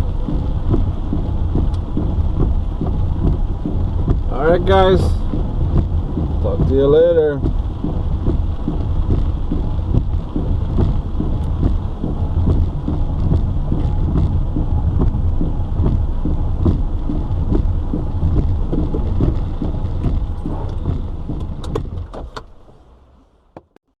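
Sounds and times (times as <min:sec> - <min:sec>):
heavy rain drumming on car: 0:00.0 - 0:23.4
low rumble of car and road: 0:00.0 - 0:24.0.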